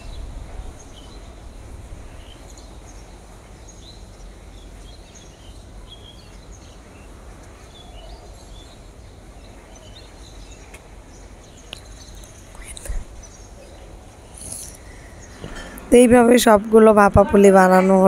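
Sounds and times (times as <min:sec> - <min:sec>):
low background hum: 0:00.0 - 0:18.0
small birds chirping: 0:00.0 - 0:18.0.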